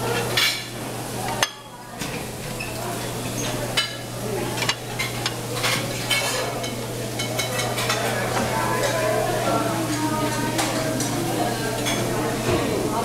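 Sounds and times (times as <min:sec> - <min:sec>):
plates and cutlery clinking: 0:00.0 - 0:12.9
distant chatter: 0:00.0 - 0:13.0.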